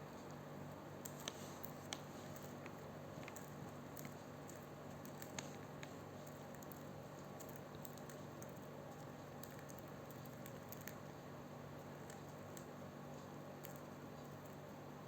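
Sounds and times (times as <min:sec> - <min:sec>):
faint small clicks and taps: 0:01.0 - 0:11.1, 0:11.8 - 0:14.7.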